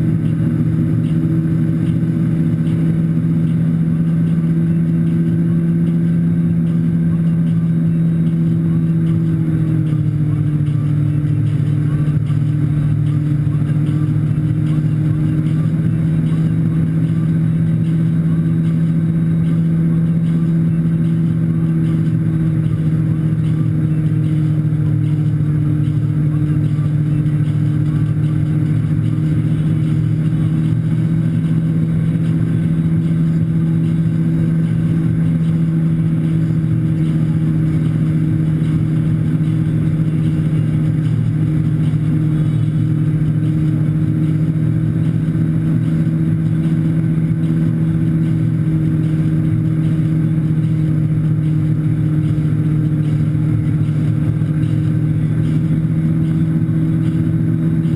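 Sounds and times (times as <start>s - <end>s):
boat engine droning: 0.0s - 57.9s.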